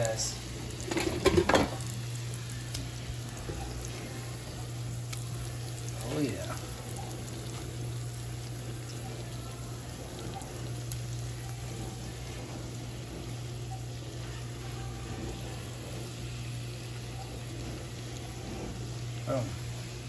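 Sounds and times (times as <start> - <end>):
constant low hum: 0.0 - 20.0
fish sizzling in a skillet: 0.0 - 20.0.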